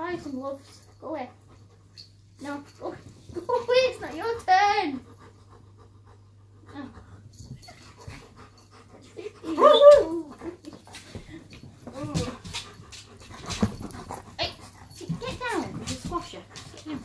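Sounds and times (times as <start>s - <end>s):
dogs grumbling and whining: 1.6s - 17.0s.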